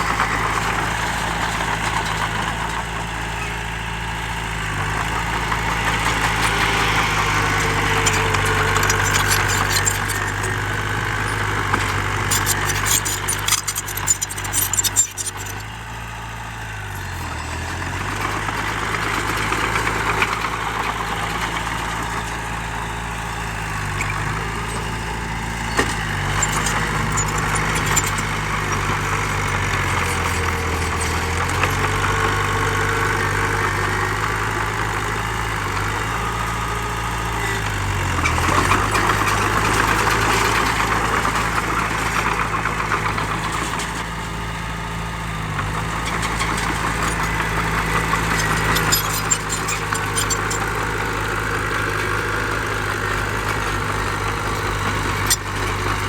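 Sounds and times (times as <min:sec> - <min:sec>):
heavy machine diesel engine running: 0:00.0 - 0:56.0.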